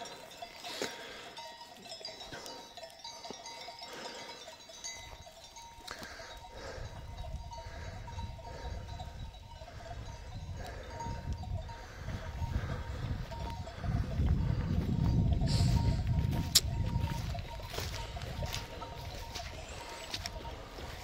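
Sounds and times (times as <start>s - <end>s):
sheep neck bells ringing: 0.0s - 21.0s.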